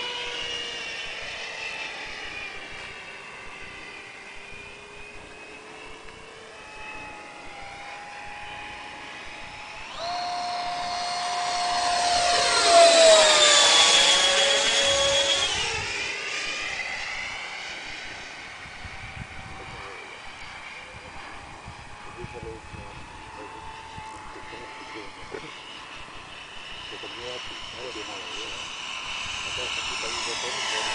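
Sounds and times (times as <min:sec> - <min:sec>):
model jet whine flying by: 0:00.0 - 0:30.9.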